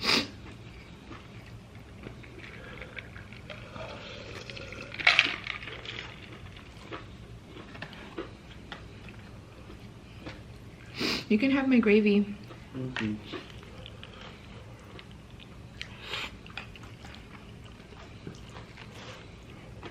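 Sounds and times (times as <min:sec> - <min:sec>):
wet chewing: 0:00.3 - 0:11.0, 0:12.4 - 0:19.9.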